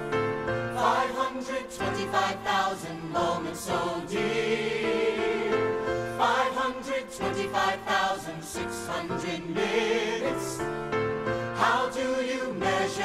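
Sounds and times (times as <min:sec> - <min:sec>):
voices singing together: 0:00.7 - 0:13.0.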